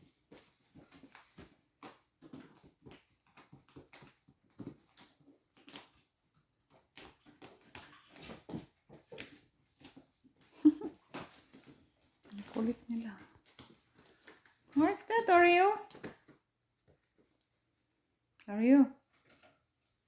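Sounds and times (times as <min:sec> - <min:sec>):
kittens' paws tapping and scratching: 0:00.0 - 0:18.3, 0:19.0 - 0:20.0.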